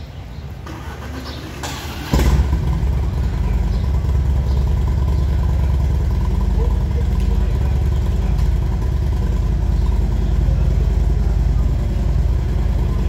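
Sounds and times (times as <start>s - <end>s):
motorcycle engine idling: 0.1s - 13.0s.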